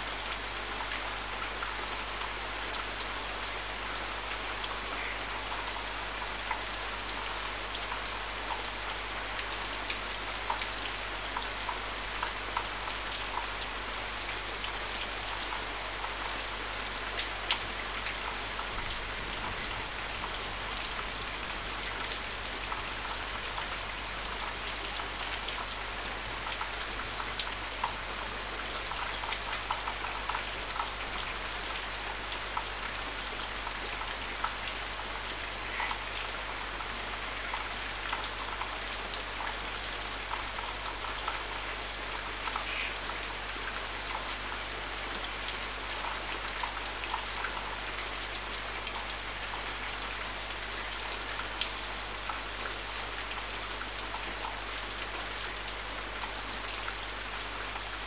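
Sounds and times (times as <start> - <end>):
heavy rain pouring: 0.1 - 58.0.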